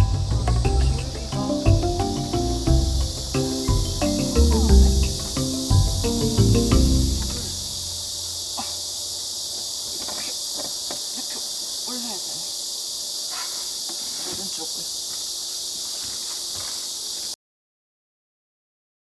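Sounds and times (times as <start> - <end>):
insects chirping: 0.0 - 17.4.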